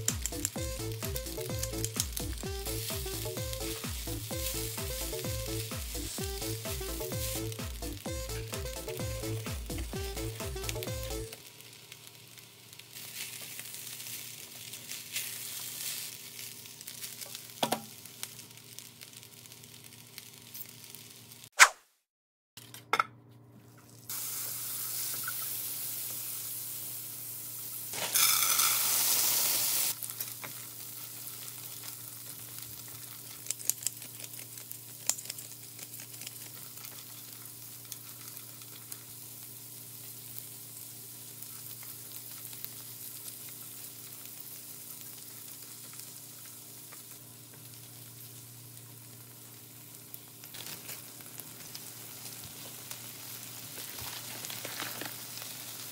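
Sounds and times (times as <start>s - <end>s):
corn sizzling in frying pan: 0.0s - 21.5s, 23.6s - 55.9s.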